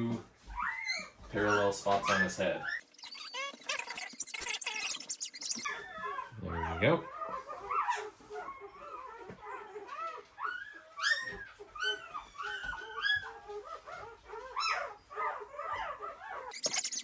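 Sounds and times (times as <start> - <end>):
puppies whimpering and squealing: 0.0 - 17.0.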